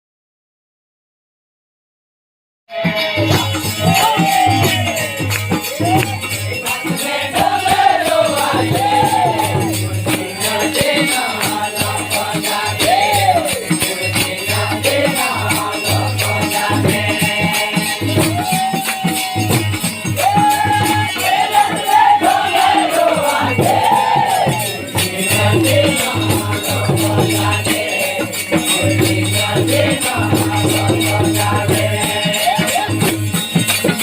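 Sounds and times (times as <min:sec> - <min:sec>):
jingling hand percussion: 0:02.7 - 0:34.0.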